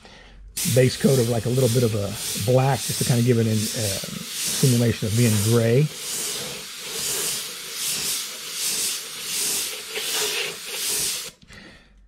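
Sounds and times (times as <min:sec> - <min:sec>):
airbrush hissing: 0:00.6 - 0:11.4.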